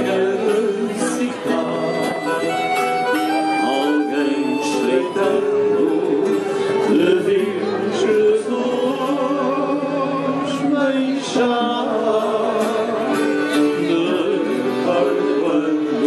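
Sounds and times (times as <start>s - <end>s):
accordion: 0.0s - 16.0s
guitars: 0.0s - 16.0s
man singing: 0.0s - 16.0s.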